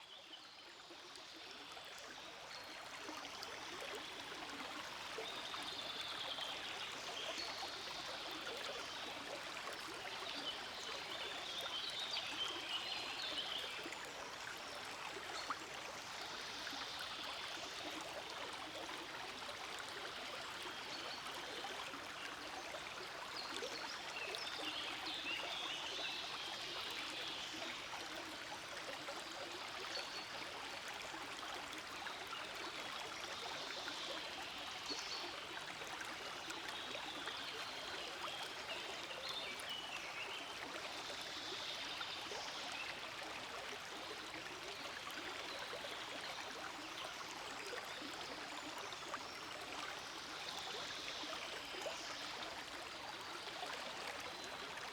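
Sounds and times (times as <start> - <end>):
forest stream flowing: 0.0 - 54.9.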